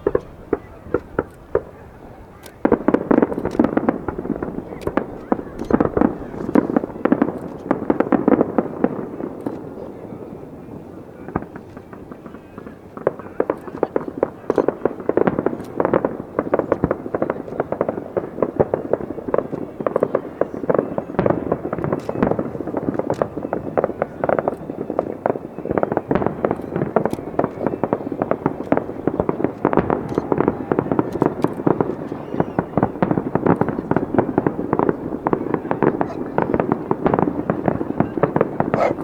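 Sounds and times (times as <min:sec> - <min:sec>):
fireworks exploding: 0:00.0 - 0:39.0.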